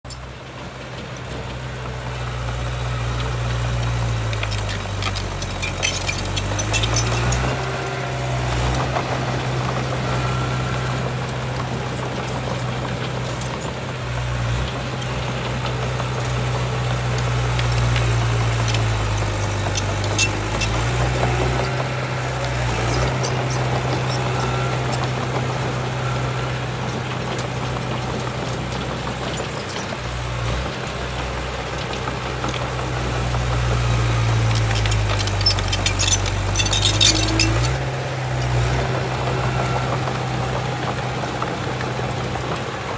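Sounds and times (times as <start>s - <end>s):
heavy diesel engine running: 0.1s - 42.9s.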